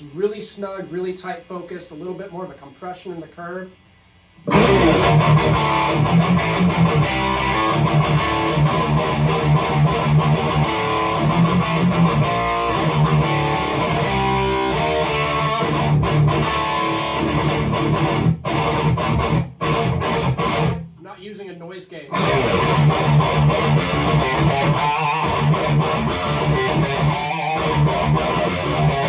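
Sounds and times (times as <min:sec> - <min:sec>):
distorted electric guitar riff: 0:04.3 - 0:21.0, 0:22.1 - 0:29.0.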